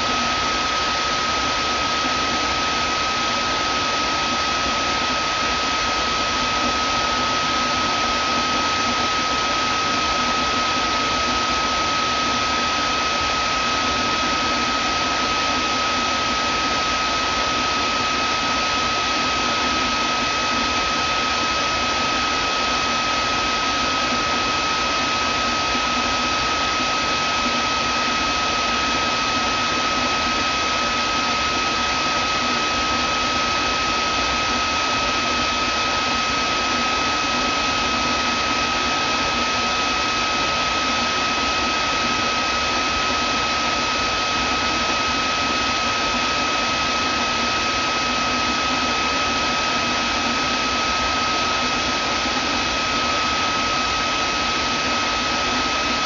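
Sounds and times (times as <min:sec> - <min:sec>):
vacuum cleaner motor running: 0:00.0 - 0:56.0.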